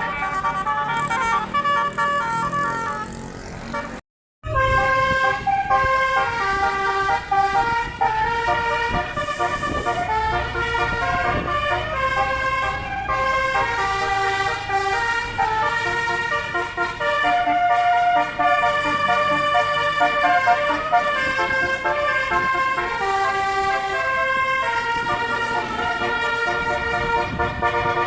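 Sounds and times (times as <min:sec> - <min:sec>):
musical air horn playing tune: 0:00.0 - 0:28.0.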